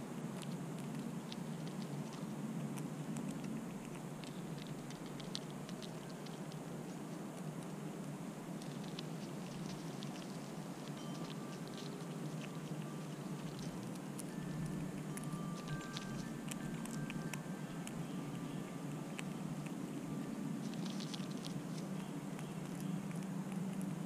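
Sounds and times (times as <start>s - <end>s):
squirrel chewing seeds: 0.0s - 24.0s.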